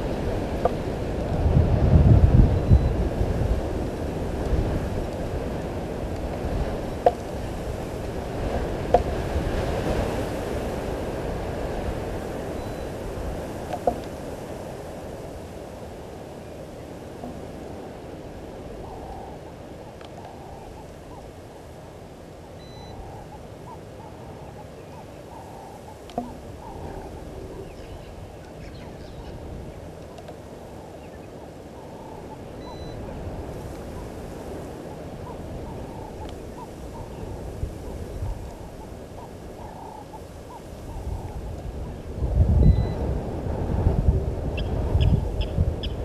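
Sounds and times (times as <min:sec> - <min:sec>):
wind rumbling on microphone: 0:00.0 - 0:46.0.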